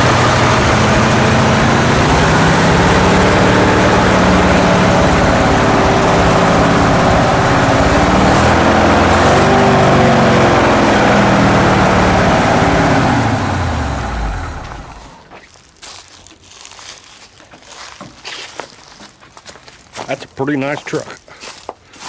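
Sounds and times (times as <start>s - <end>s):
truck engine running: 0.0s - 21.6s.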